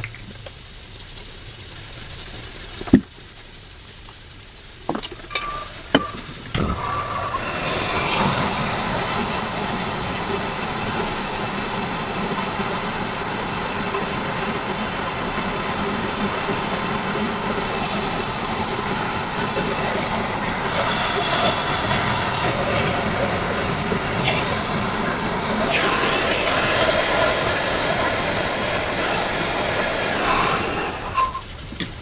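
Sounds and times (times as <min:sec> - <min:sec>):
steady mechanical running: 0:04.7 - 0:32.0.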